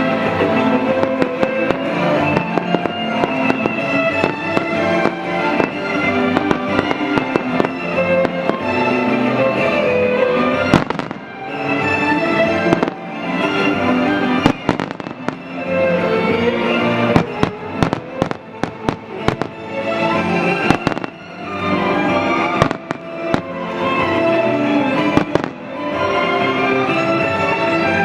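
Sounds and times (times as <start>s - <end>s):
fireworks cracking and banging: 0.0s - 28.0s
music playing: 0.0s - 28.0s.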